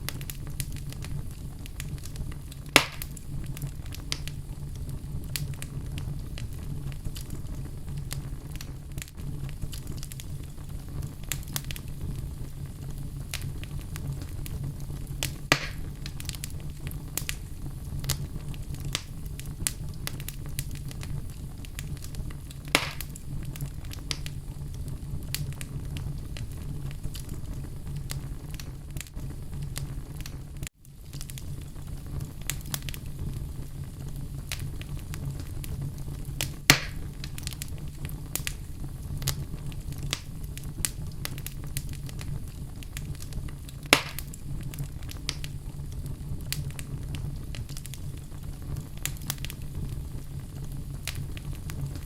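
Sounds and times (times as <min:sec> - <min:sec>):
fire popping loudly: 0:00.0 - 0:52.0
wood fire crackling: 0:00.0 - 0:52.0.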